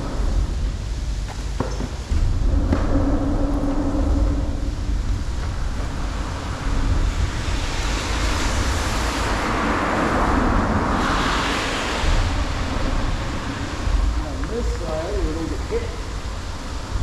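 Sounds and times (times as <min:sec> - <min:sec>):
highway traffic rumble: 0:00.0 - 0:17.0.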